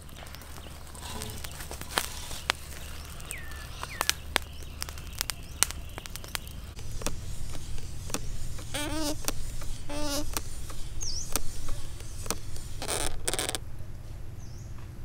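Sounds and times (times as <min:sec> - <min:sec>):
bird chirps: 0:00.0 - 0:13.6
wavering bird call: 0:00.0 - 0:13.6
chicken crackling on a spit: 0:00.0 - 0:13.8.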